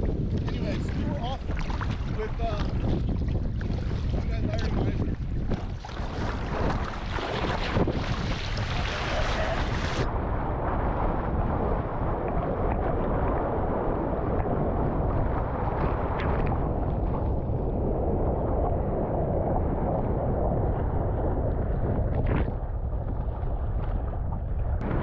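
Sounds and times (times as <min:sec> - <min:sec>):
sea waves washing: 0:00.0 - 0:25.0
wind rumble on microphone: 0:00.0 - 0:25.0.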